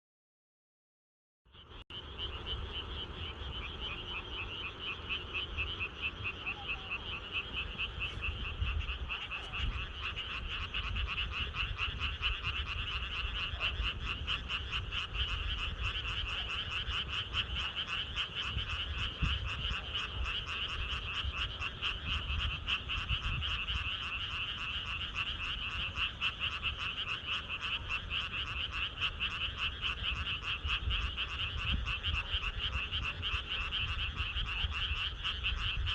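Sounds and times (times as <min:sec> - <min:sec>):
chorus of frogs trilling: 0:01.5 - 0:35.9.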